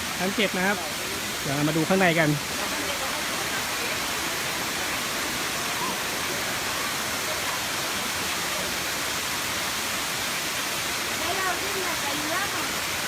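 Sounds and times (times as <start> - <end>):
waterfall pouring and splashing: 0.0 - 13.0.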